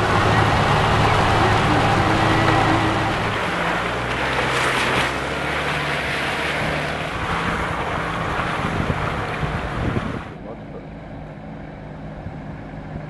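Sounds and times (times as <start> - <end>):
low engine hum: 0.0 - 13.0
road and wind noise: 0.0 - 13.0.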